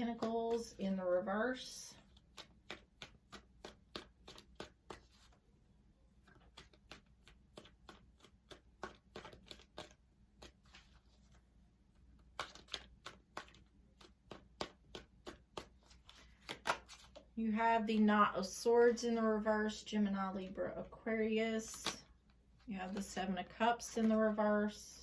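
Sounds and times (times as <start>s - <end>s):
cards being shuffled: 0.0s - 5.4s, 6.2s - 18.1s, 21.6s - 24.3s.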